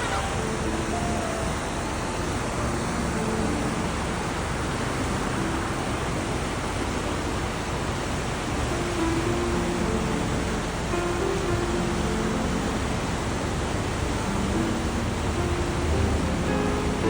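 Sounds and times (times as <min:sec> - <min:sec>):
flooded river rushing: 0:00.0 - 0:17.0.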